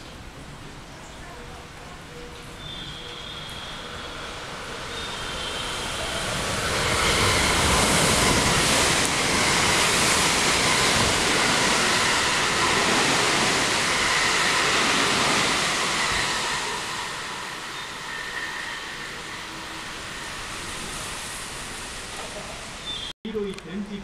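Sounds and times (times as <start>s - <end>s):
electric train passing at speed: 0.0s - 23.1s.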